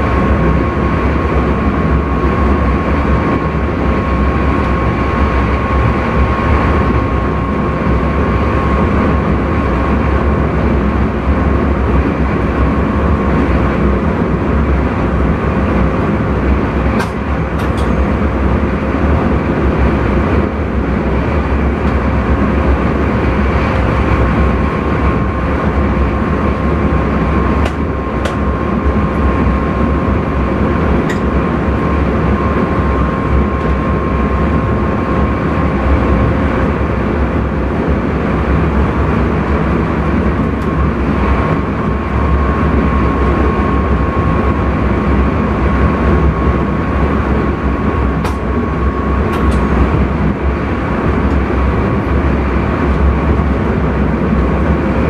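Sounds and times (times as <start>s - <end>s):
train rumble with high whine: 0.0s - 55.0s.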